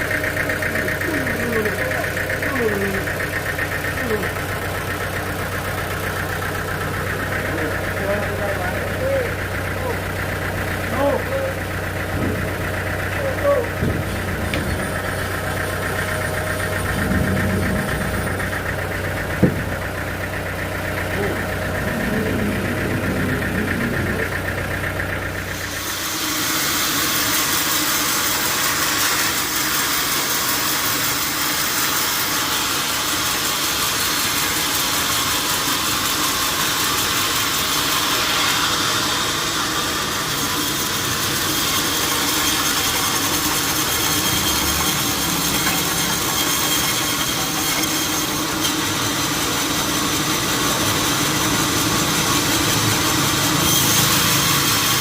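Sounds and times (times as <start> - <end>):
sawmill saw engine: 0.0 - 55.0.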